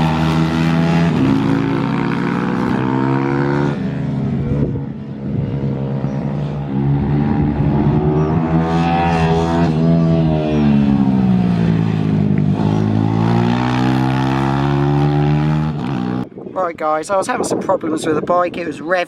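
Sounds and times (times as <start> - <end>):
motorcycle engine revving: 0.0 - 16.3.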